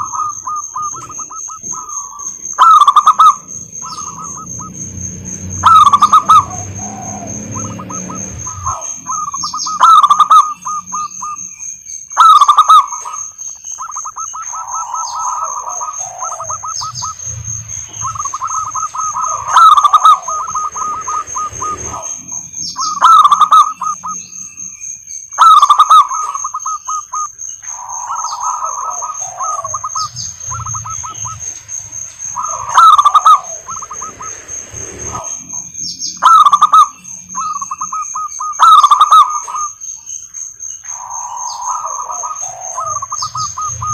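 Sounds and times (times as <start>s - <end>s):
doves cooing trills: 0.0s - 43.9s
high-pitched whine: 0.0s - 43.9s.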